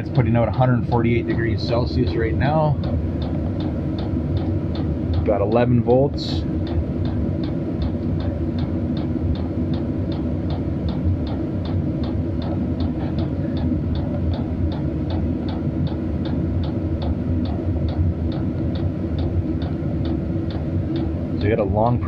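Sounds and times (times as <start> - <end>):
fuel pump ticking: 0.0 - 22.0
heater blower low rumble: 0.0 - 22.0.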